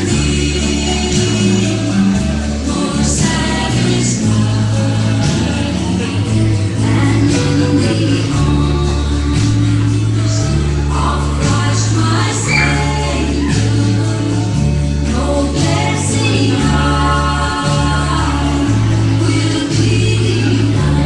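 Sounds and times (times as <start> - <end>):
bass line: 0.0 - 21.0
voices singing gospel: 0.0 - 21.0.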